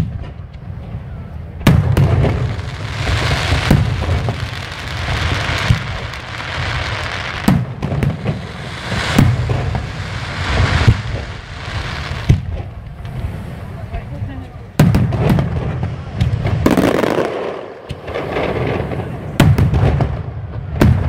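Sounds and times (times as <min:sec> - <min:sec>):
firework shells booming: 0:00.0 - 0:13.7, 0:14.7 - 0:21.0
firework crackling hiss: 0:00.7 - 0:20.1.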